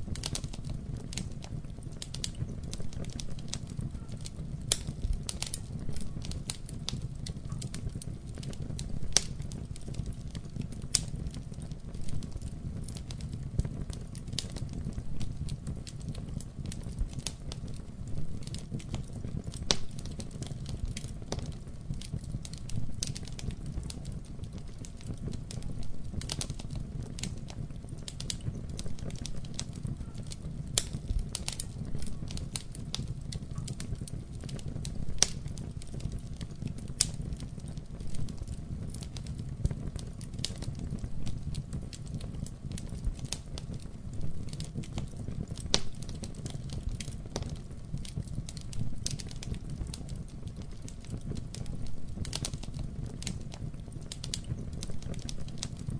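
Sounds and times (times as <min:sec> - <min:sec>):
low rumble of flame: 0:00.0 - 0:55.9
wood fire crackling and popping: 0:00.0 - 0:55.9.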